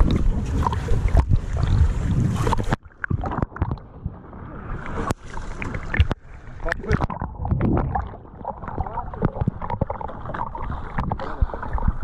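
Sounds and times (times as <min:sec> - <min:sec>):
muffled underwater clicks: 0:00.0 - 0:03.9, 0:04.9 - 0:11.9
water sloshing and splashing: 0:00.0 - 0:12.0.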